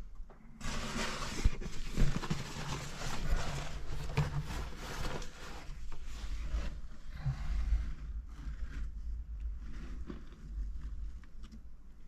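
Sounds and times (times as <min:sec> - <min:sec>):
clothing scraping against rock: 0:00.6 - 0:11.3.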